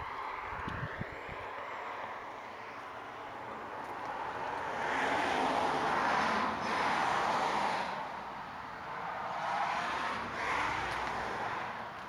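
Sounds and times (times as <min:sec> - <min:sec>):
vehicle tyre and road noise: 0:00.0 - 0:12.0.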